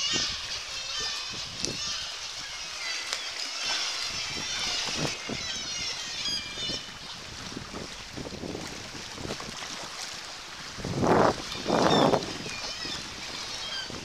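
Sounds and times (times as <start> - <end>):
wind on microphone: 0.0 - 2.7, 3.7 - 14.0
seabirds calling: 0.0 - 9.1, 9.9 - 14.0
water splashing around a kayak: 0.0 - 14.0.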